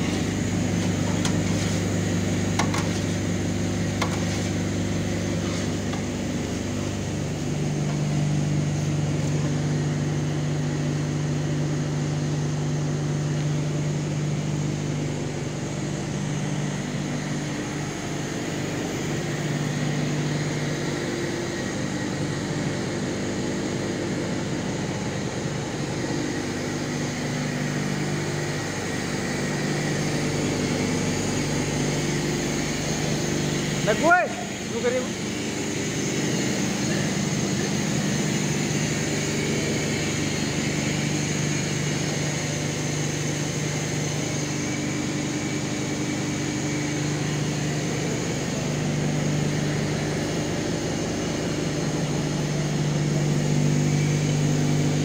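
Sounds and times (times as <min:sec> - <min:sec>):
machinery humming: 0:00.0 - 0:55.0.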